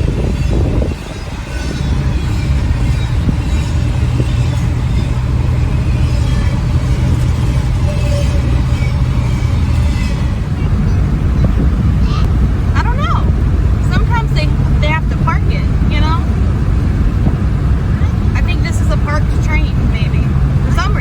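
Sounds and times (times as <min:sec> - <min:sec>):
engine and road noise hum: 0:00.0 - 0:21.0.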